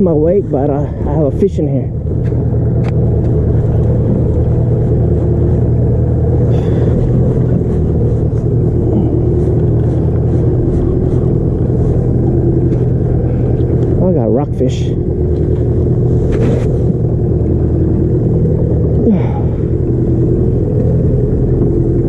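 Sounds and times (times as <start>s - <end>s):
outboard motor droning: 0.0s - 22.0s.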